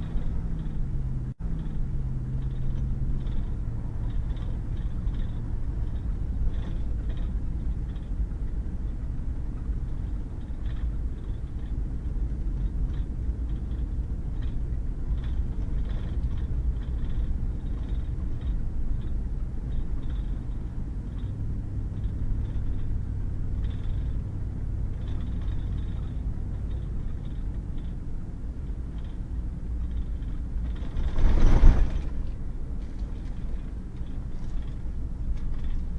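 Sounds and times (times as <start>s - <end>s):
truck engine and tyres rumbling: 0.0s - 35.9s.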